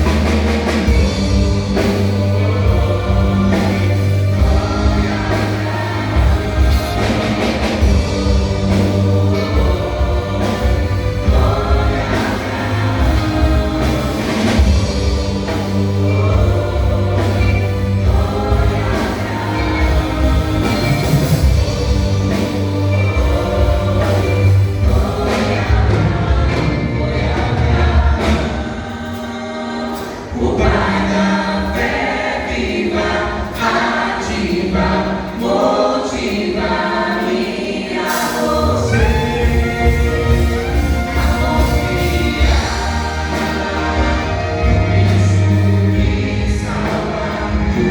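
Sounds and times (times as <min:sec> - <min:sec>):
group singing gospel in harmony: 0:00.0 - 0:47.9.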